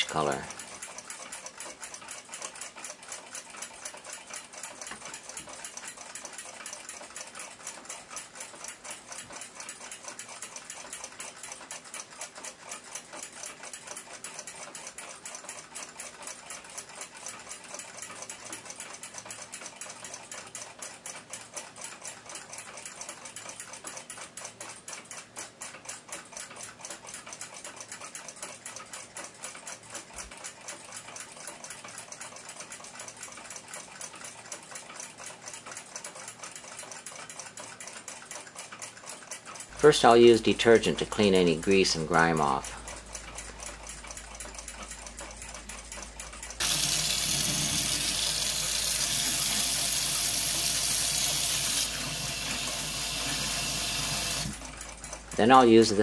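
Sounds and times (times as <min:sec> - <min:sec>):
rapid mechanical ticking: 0:00.0 - 0:56.0.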